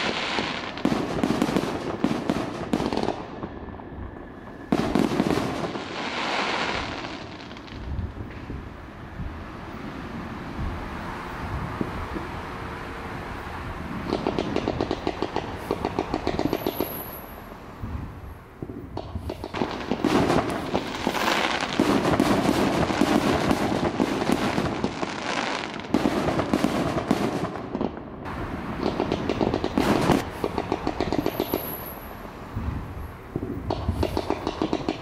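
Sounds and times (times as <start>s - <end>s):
fireworks bangs and crackling: 0.0s - 9.4s, 13.7s - 35.0s.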